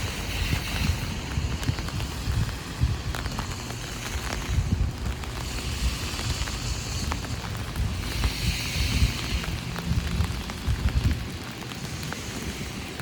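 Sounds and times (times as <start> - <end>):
heavy rain on an umbrella: 0.0 - 13.0
wind rumbling on microphone: 0.0 - 13.0.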